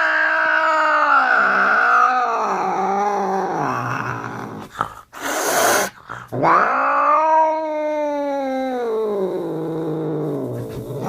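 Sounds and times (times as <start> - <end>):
cat growling yowl: 0.0 - 11.0.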